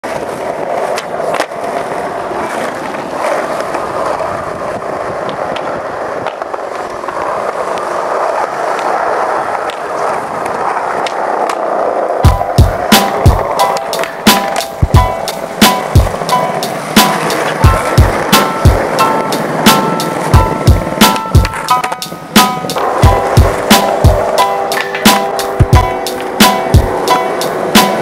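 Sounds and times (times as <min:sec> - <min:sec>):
skateboard clicks: 0:00.0 - 0:28.0
skateboard wheels rolling on concrete: 0:00.0 - 0:28.0.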